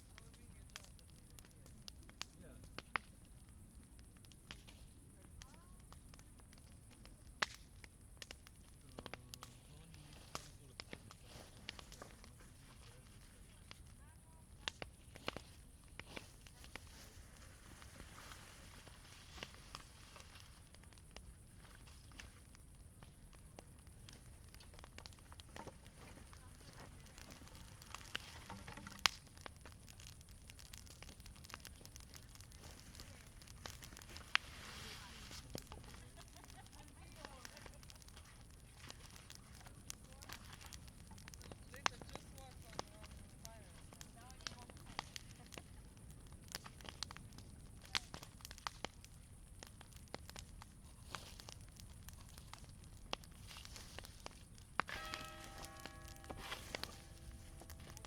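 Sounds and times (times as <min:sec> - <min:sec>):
campfire crackling: 0:00.0 - 0:58.0
low rumble of flame: 0:00.0 - 0:58.0.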